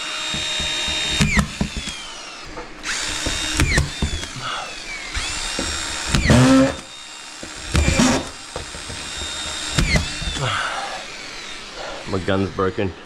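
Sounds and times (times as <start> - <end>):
power screw gun whirring: 0.0 - 13.0.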